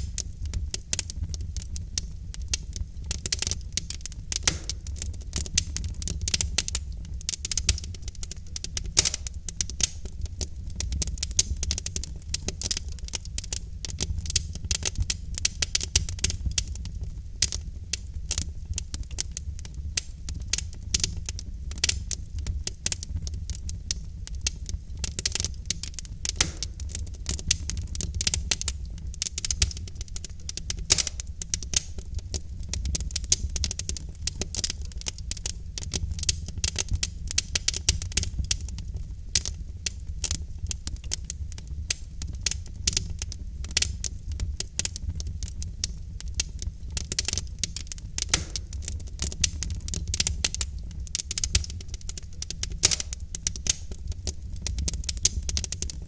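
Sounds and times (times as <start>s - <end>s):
logs crackling and popping in fire: 0.0s - 56.0s.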